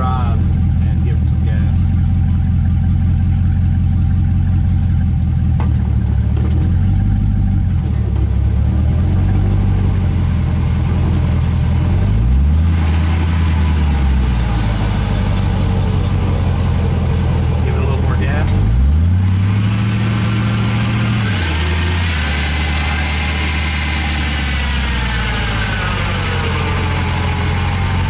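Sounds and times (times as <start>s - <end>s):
truck engine hum: 0.0s - 28.0s.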